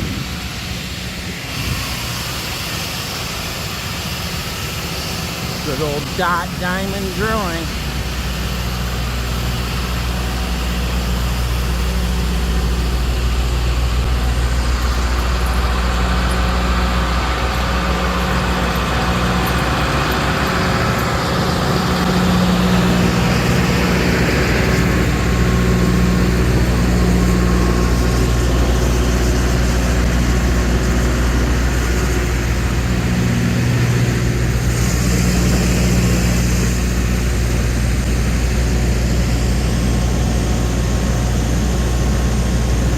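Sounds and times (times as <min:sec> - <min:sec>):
hiss: 0:00.0 - 0:06.1, 0:07.7 - 0:42.9
drilling rig engine humming: 0:00.0 - 0:42.9.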